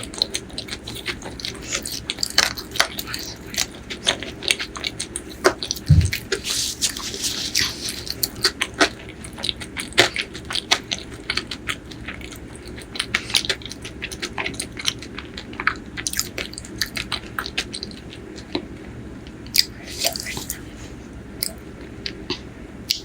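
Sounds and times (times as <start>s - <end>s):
chewing with wet clicks: 0.0s - 20.6s, 21.4s - 23.0s.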